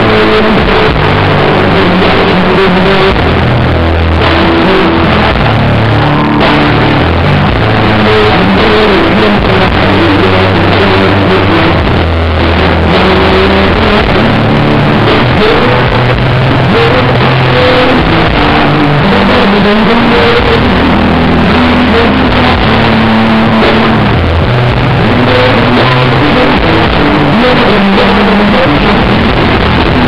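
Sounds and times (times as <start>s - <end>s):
bass guitar: 0.0s - 30.0s
distorted electric guitars: 0.0s - 30.0s
drums: 0.0s - 30.0s.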